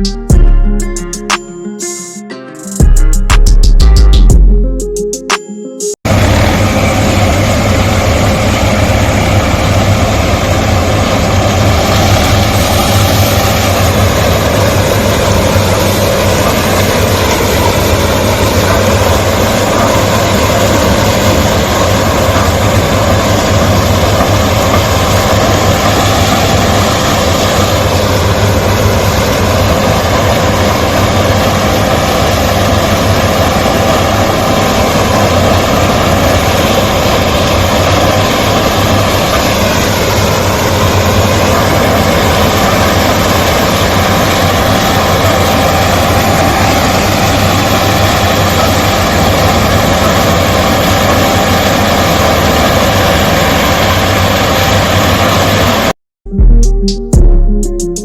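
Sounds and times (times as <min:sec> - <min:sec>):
diesel engine running: 0:00.0 - 0:01.5, 0:06.0 - 0:58.0.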